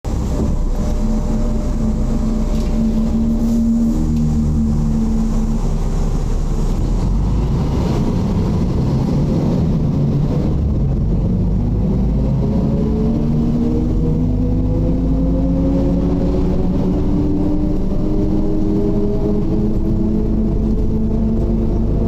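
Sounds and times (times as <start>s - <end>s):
bus diesel engine running: 0.0s - 22.0s.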